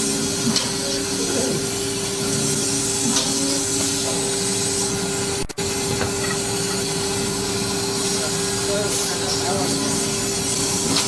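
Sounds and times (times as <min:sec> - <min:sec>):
loud machine hiss: 0:00.0 - 0:11.0
panel machine motor hum: 0:00.0 - 0:11.0.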